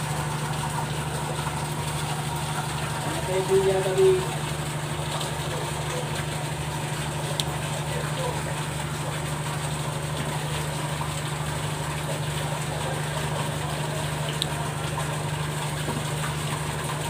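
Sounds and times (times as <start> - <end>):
large engine idling: 0.0 - 17.0.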